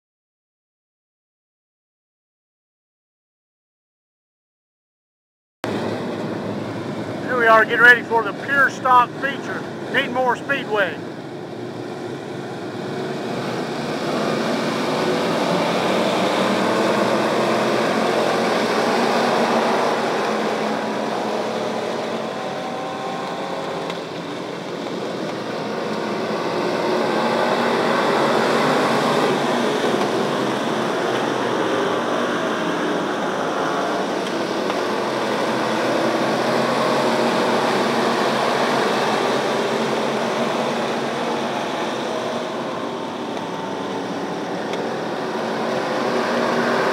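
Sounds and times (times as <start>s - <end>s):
race car engines passing: 5.7s - 46.9s.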